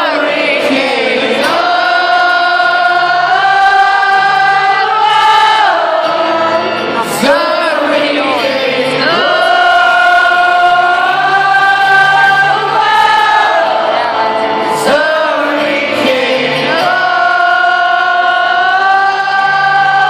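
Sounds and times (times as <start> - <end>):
crowd singing together: 0.0 - 20.0.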